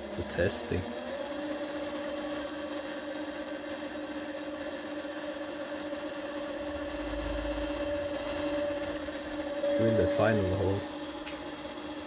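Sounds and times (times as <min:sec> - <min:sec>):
drill spindle humming and whining: 0:00.0 - 0:12.0
low rumble of drilling: 0:00.0 - 0:12.0.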